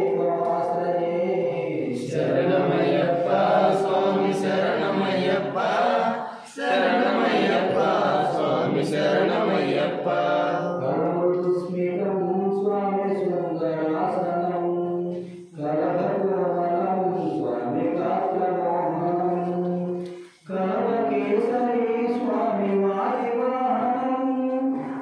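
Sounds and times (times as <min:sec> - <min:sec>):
group chanting devotional song: 0:00.0 - 0:25.0.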